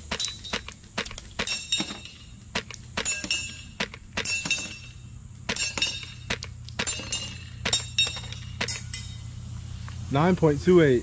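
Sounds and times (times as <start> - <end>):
airsoft rifle shots: 0.0 - 8.9
metal targets clinking: 0.0 - 9.4.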